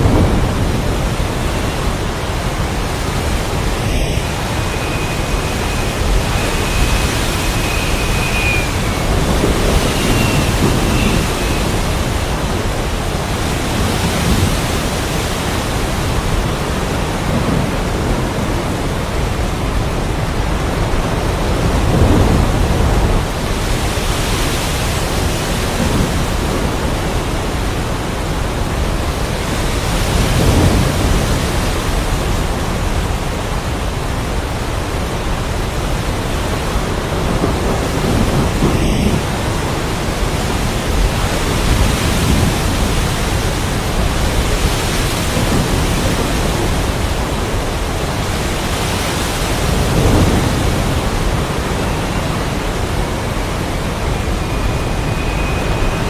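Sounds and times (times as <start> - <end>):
heavy rain: 0.0 - 56.0
low thunder rumbles: 0.0 - 56.0
wind: 0.0 - 56.0.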